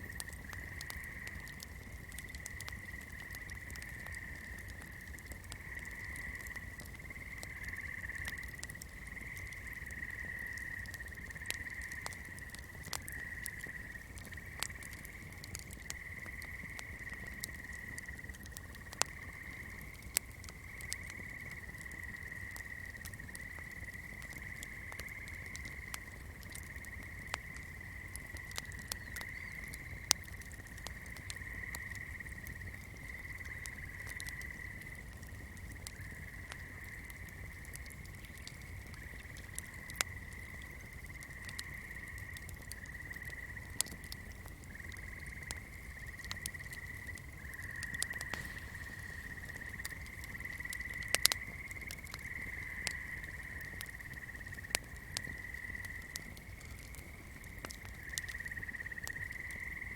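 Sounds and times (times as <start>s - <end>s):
candle popping and crackling: 0.0s - 59.5s
frogs or insects trilling: 0.0s - 59.9s.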